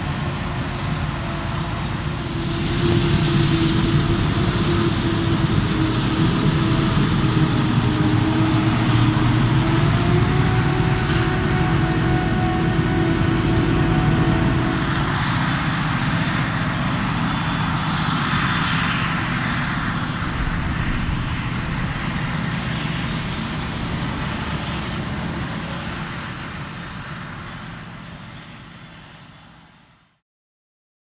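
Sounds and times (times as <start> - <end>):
harvester and engines droning: 0.0 - 30.2.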